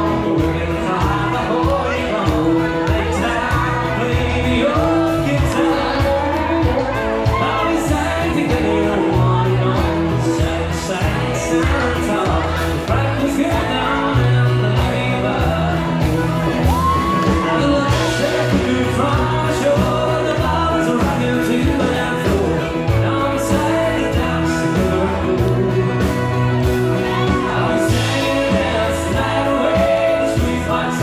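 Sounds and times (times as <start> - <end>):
bass line: 0.0 - 31.0
person singing: 0.0 - 31.0.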